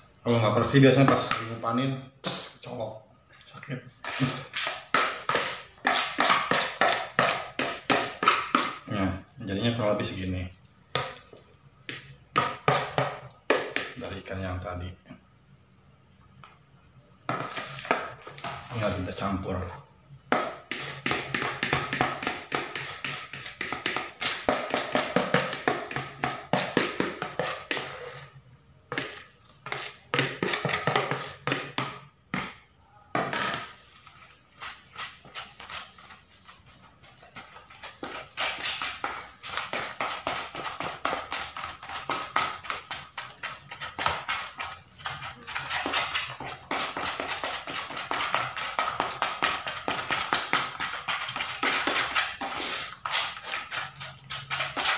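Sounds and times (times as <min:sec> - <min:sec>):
spoon stirring in a plastic bowl: 0:00.7 - 0:01.6, 0:03.9 - 0:14.1, 0:17.2 - 0:54.9.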